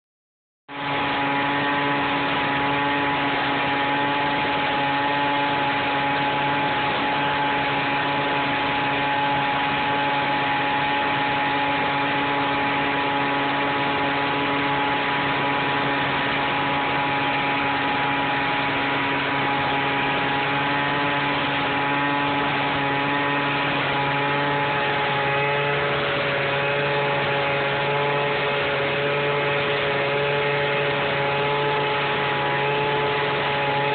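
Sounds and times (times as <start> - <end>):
small blower running: 0.7 - 33.9.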